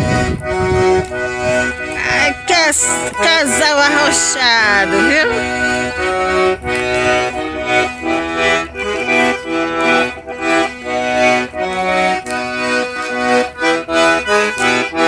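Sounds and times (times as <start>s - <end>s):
accordion playing dance tune: 0.0s - 15.0s.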